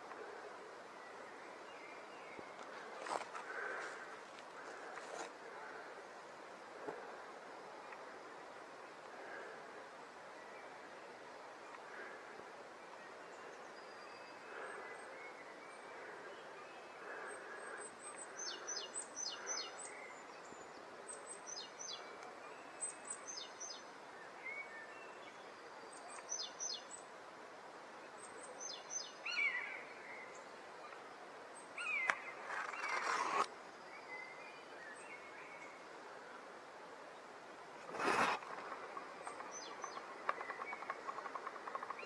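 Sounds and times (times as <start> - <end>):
songbird singing: 0.0 - 27.2, 27.9 - 42.0
rustle: 0.0 - 42.0.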